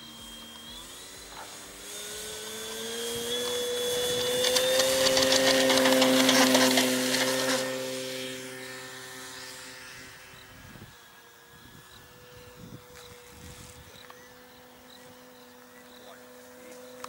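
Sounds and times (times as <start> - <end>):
model plane motor whining: 0.0 - 17.0.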